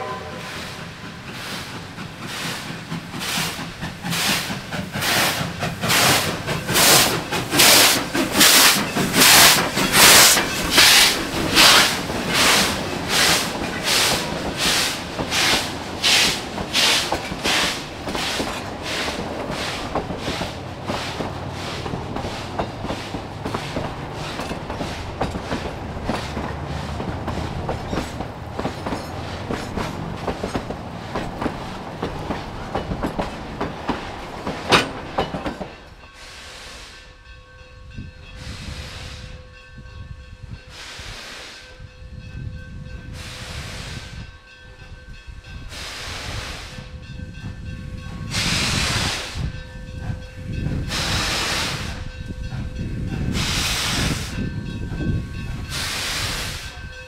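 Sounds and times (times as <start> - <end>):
coach wheels clickety-clack: 0.0 - 57.0
steam locomotive chuffing: 0.0 - 57.0.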